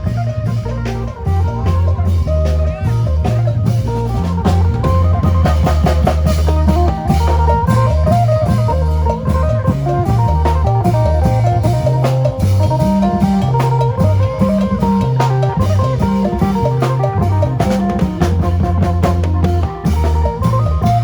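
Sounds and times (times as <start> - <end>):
drum kit: 0.0 - 21.0
lute picking a melody: 0.0 - 21.0
stepping bass line: 0.0 - 21.0.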